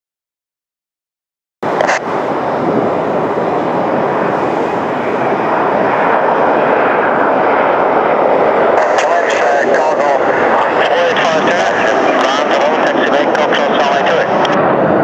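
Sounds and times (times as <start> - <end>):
jet engines roaring: 1.6 - 15.0.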